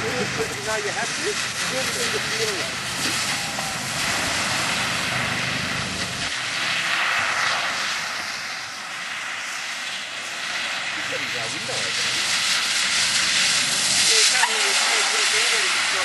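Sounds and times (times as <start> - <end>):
car engine rumble: 0.0 - 9.4, 10.0 - 16.0
steady broad hiss: 0.0 - 16.0.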